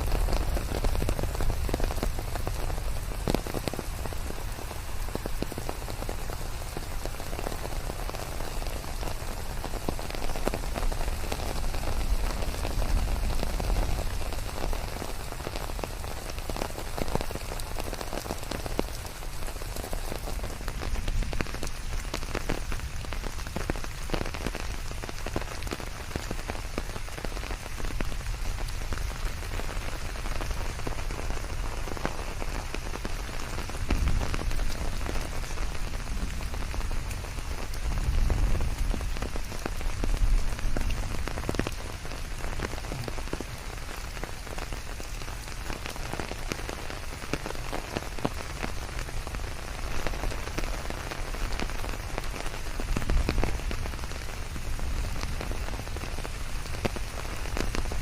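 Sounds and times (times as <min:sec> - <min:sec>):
raindrops ticking: 0:00.0 - 0:58.0
steady rain falling: 0:00.0 - 0:58.0.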